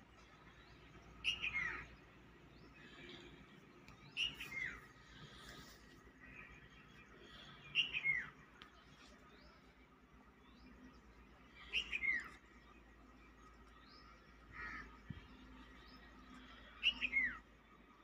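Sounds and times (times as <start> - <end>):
bird chirping call: 0.4 - 9.8, 10.4 - 17.5.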